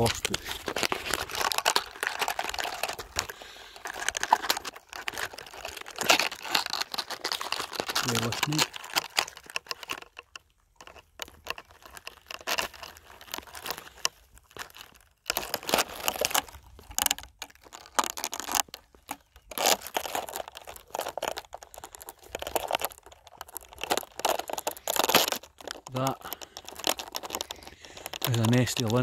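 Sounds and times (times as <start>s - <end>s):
bush branches rustling and crackling: 0.0s - 29.0s.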